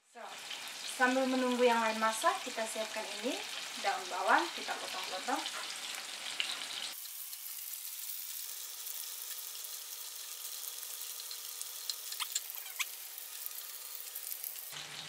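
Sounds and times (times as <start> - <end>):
chicken sizzling in oil: 0.1 - 15.0.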